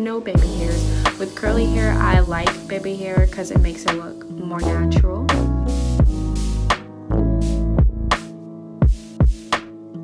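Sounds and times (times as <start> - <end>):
bass and keyboard notes: 0.3 - 3.8, 4.5 - 10.0.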